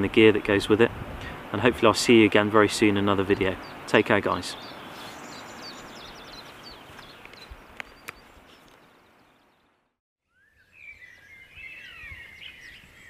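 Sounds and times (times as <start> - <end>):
birds singing: 1.8 - 13.0.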